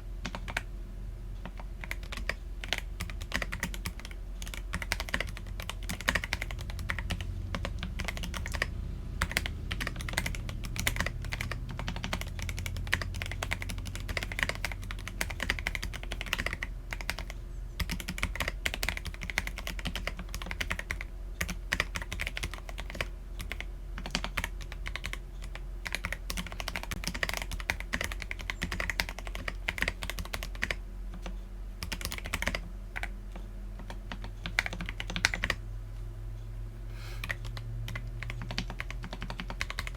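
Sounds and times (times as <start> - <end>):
mechanical keyboard typing: 0.2 - 0.7, 1.4 - 33.1, 33.8 - 35.6, 37.2 - 39.9.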